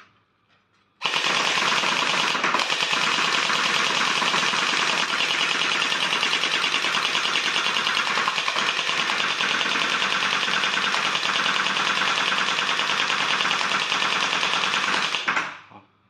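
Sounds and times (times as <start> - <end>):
gel blaster firing full auto: 1.0 - 15.6.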